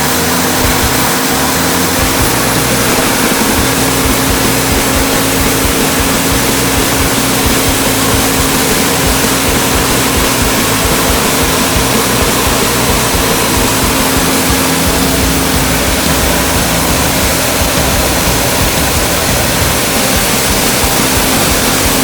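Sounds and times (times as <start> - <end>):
band sawmill running: 0.0 - 22.0.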